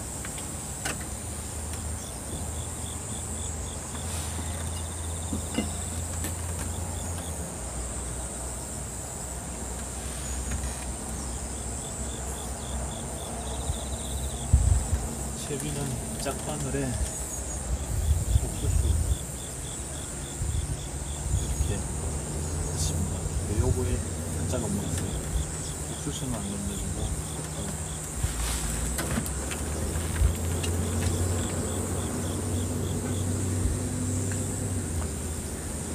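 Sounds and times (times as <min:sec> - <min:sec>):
insect chirps: 0:00.0 - 0:35.9
insects buzzing: 0:00.0 - 0:35.9.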